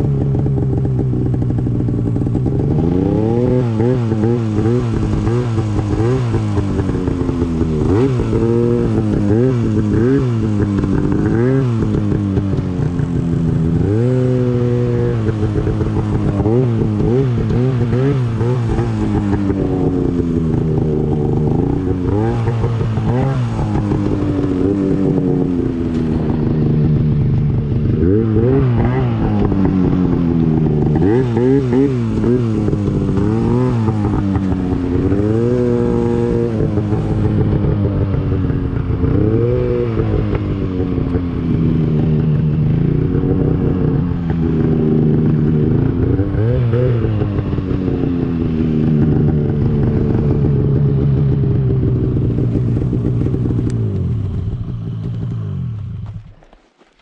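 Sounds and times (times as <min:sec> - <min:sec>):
snowmobile engine revving: 0:00.0 - 0:55.8.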